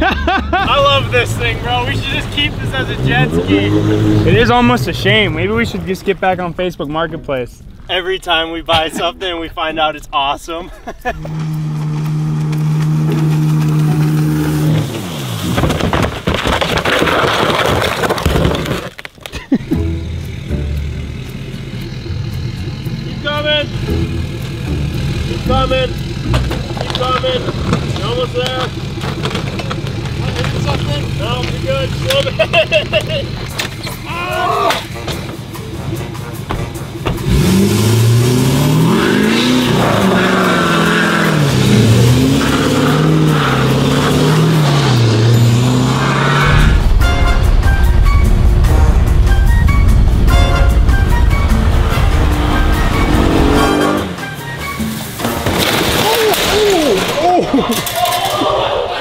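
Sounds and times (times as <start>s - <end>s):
truck engine accelerating: 0.0s - 9.0s, 10.8s - 18.5s, 19.3s - 59.0s.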